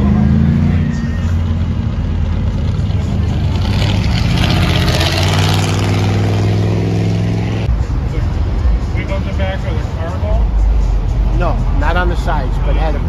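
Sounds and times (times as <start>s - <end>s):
car engines in slow traffic: 0.0s - 11.4s
van engine at low revs: 0.0s - 13.0s.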